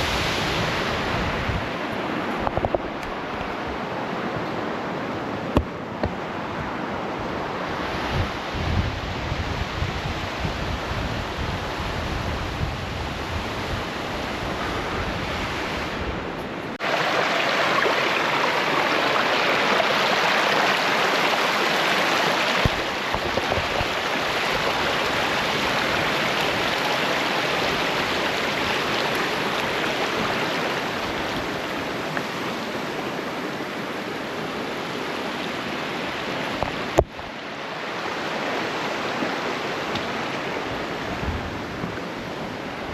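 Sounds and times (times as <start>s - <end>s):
waterfall rushing water: 0.0s - 10.6s, 16.8s - 42.9s
wind rumbling on microphone: 0.0s - 37.4s, 38.0s - 42.9s.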